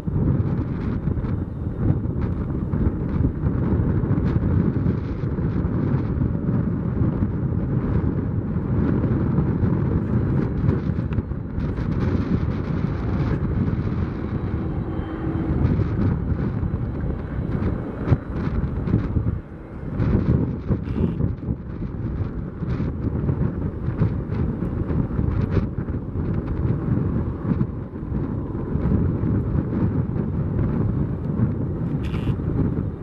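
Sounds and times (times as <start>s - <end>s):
jet engines rumbling: 0.0s - 33.0s
wind buffeting microphone: 0.0s - 33.0s.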